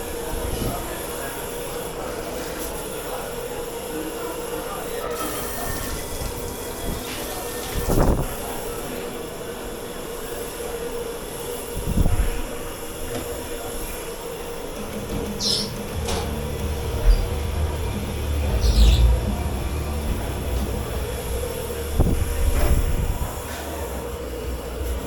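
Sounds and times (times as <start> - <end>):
machinery humming and rumbling: 0.0 - 25.0.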